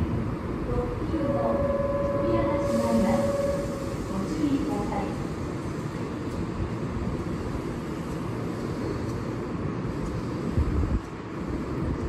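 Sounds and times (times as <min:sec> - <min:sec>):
electric train idling rumble: 0:00.0 - 0:12.0.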